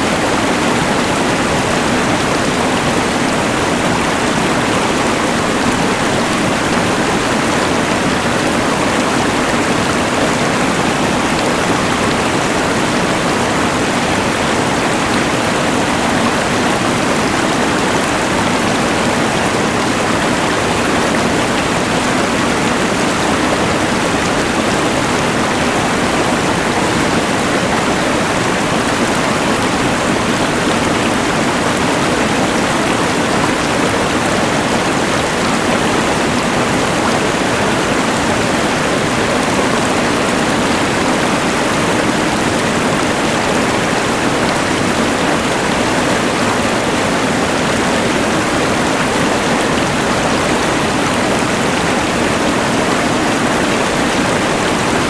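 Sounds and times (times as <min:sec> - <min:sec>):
rushing river: 0:00.0 - 0:55.0.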